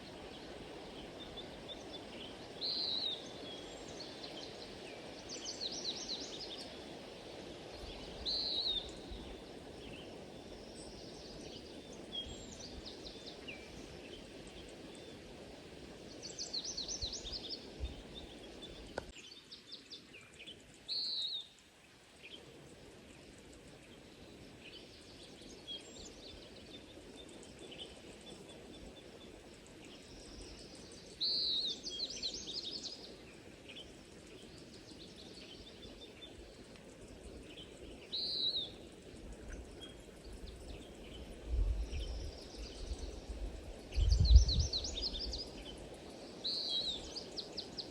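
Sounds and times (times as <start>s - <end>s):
songbirds singing: 0.0s - 15.3s, 15.9s - 47.9s.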